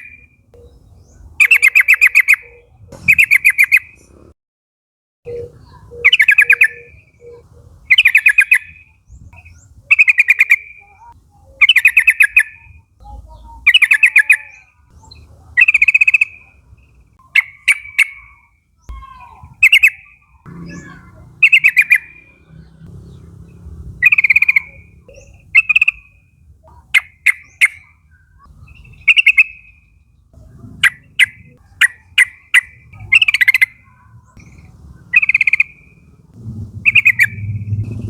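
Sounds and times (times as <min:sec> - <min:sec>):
bulbul calling: 0:00.0 - 0:04.1, 0:05.3 - 0:38.0.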